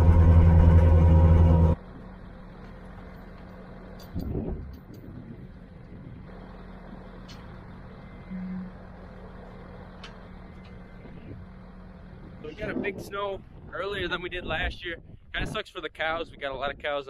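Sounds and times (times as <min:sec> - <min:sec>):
rumble: 0:00.0 - 0:15.6
engine idling hum: 0:00.0 - 0:17.0.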